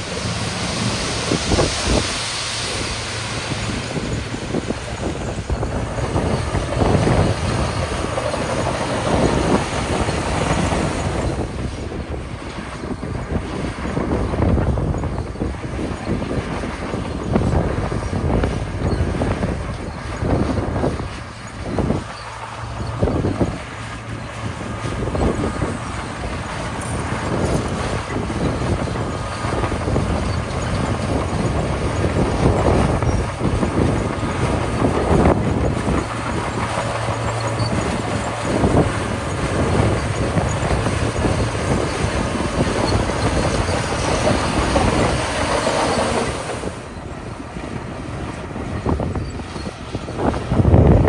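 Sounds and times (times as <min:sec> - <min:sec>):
bulldozer diesel engine: 0:00.0 - 0:51.0
steel tracks clanking: 0:00.0 - 0:51.0.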